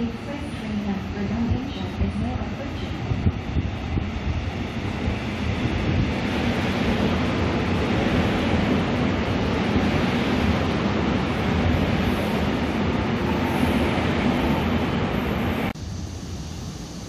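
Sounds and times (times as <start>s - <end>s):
train passing rumble: 0.0s - 17.0s.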